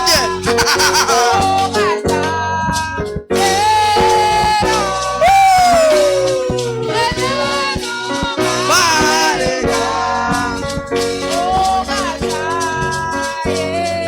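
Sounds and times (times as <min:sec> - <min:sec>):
held instrumental notes: 0:00.0 - 0:14.0
person singing: 0:00.0 - 0:14.0
rattling percussion beat: 0:00.0 - 0:14.0.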